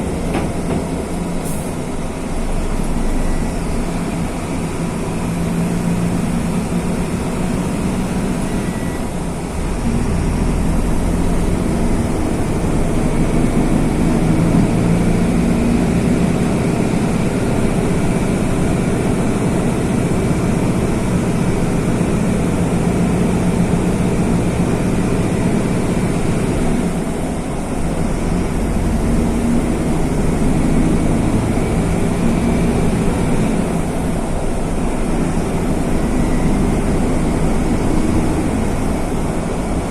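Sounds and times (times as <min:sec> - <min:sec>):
bus diesel engine under load: 0:00.0 - 0:39.9.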